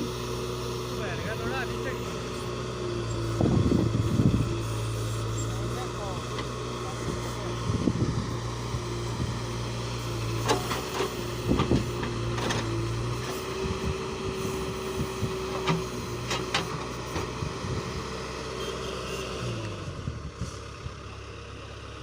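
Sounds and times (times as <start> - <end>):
diesel engines running: 0.0 - 22.0
low engine hum: 0.0 - 22.0.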